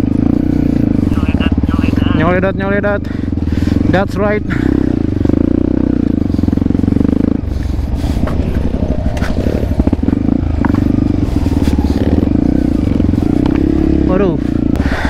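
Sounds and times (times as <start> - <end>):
motorcycle engine under load: 0.0 - 15.0.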